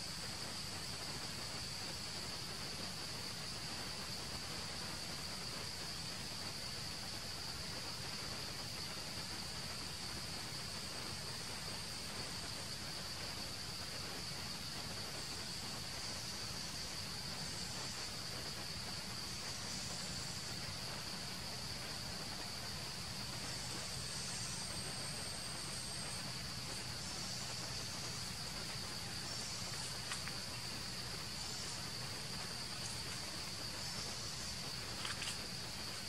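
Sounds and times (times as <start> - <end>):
insects droning: 0.0 - 36.0
soft background hiss: 0.0 - 36.0.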